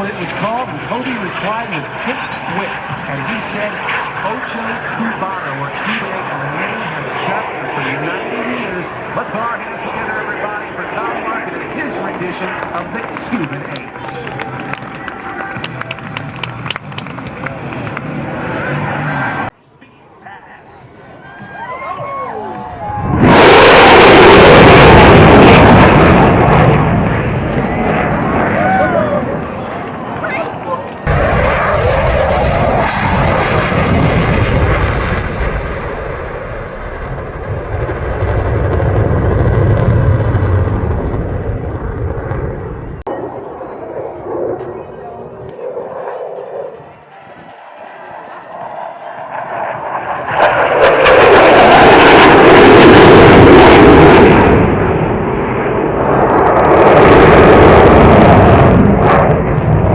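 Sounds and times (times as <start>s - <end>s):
airplane flying past: 0.0s - 19.5s, 22.3s - 59.9s.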